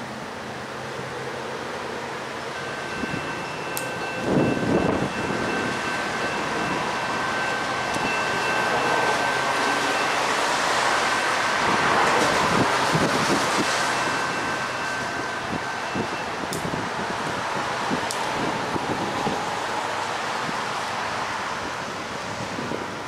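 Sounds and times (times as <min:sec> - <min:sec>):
passing vehicle road noise: 0:00.0 - 0:23.0
crossing warning bell ringing: 0:02.0 - 0:22.1.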